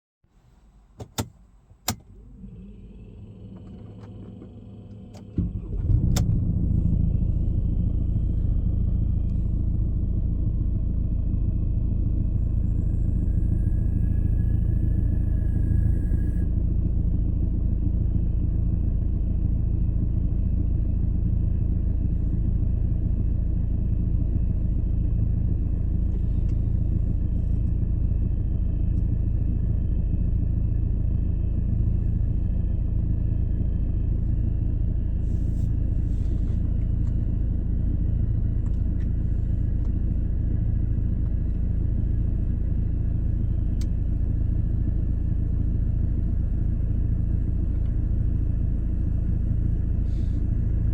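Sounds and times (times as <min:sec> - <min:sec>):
car cabin low rumble: 0:00.3 - 0:50.9.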